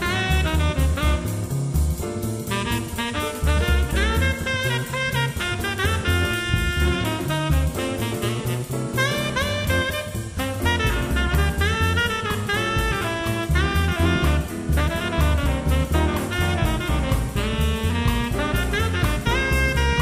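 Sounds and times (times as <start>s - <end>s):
bass and drums: 0.0s - 20.0s
jazz horn melody: 0.0s - 20.0s.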